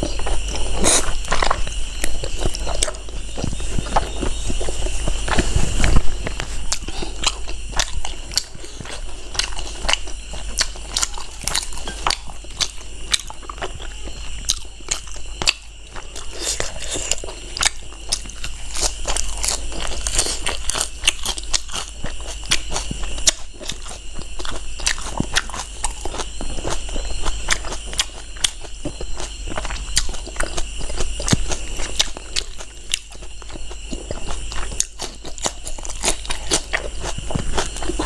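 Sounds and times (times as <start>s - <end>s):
chewing and wet mouth sounds: 0.0s - 38.0s.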